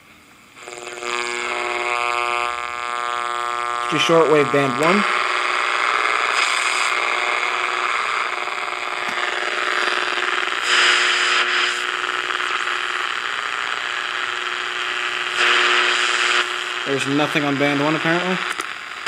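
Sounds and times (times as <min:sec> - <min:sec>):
radio static hiss: 0:00.4 - 0:19.0
steady radio buzz: 0:00.5 - 0:19.0.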